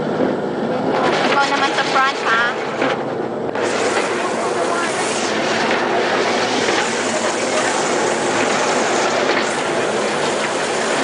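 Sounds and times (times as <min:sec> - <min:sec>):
kiddie ride train running: 0:00.0 - 0:11.0.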